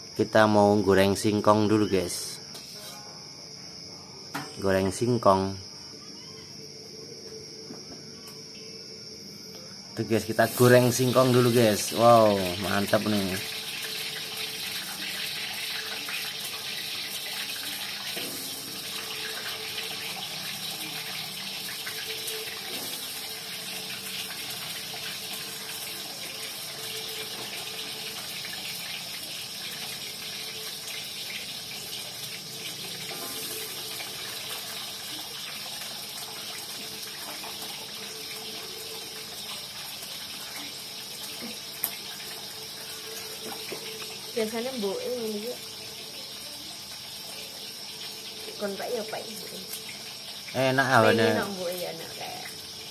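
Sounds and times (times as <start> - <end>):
food deep-frying in oil: 3.7 - 52.9.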